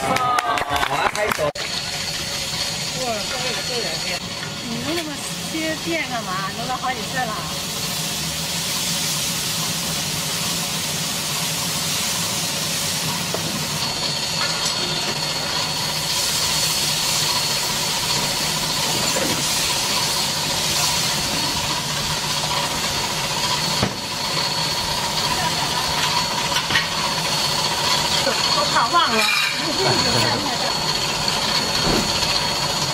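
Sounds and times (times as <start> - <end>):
gas griddle hissing: 1.6 - 32.9.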